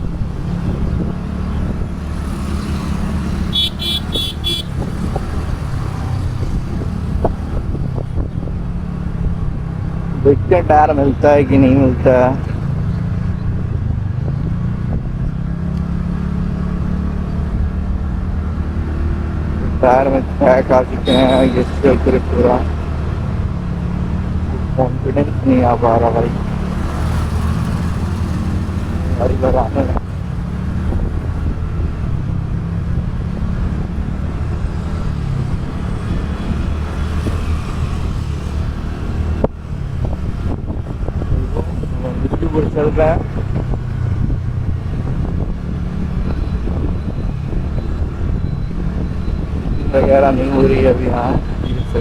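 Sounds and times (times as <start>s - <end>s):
scooter engine cruising: 0.0s - 51.8s
road rumble: 0.0s - 52.0s.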